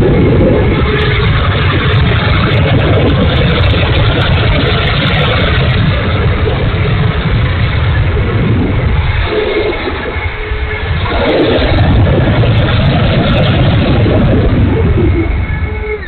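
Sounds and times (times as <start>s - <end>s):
electric ducted fans rushing: 0.0s - 16.0s.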